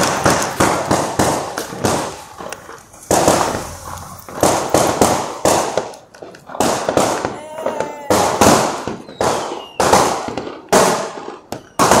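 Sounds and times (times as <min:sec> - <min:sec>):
fireworks bangs with echo: 0:00.0 - 0:12.0.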